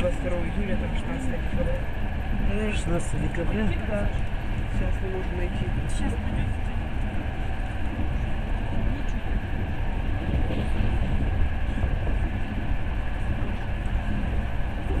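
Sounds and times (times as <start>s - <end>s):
train carriage rumbling on rails: 0.0s - 15.0s.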